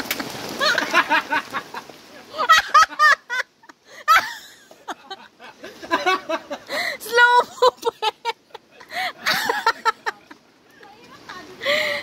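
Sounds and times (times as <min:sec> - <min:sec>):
people laughing: 0:00.6 - 0:10.5.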